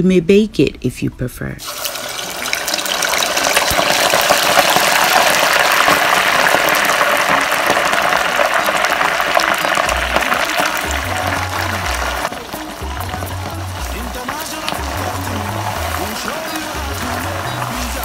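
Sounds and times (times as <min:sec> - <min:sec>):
meat deep-frying in oil: 0:01.6 - 0:18.0.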